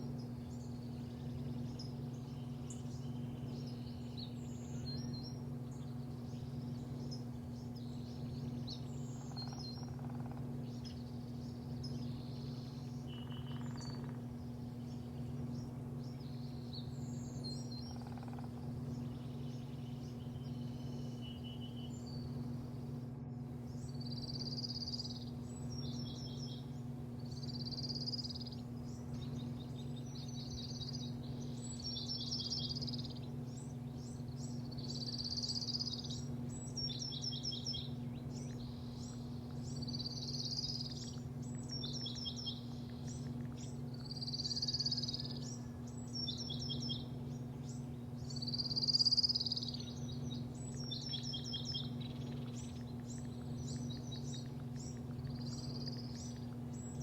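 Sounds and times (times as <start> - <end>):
songbird singing: 0.0 - 57.0
steady low hum: 0.0 - 57.0.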